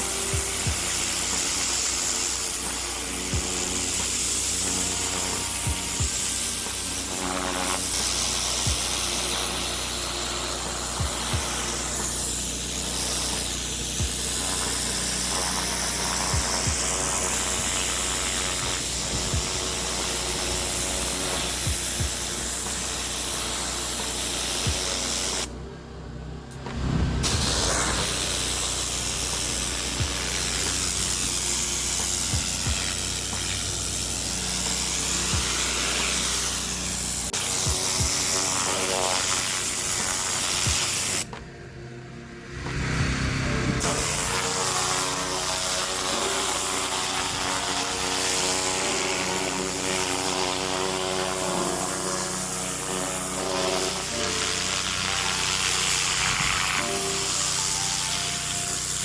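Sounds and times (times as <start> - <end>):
water jet hissing on pavers: 0.0 - 25.5, 27.2 - 41.3, 43.8 - 59.0
pressure washer engine running: 0.0 - 59.0.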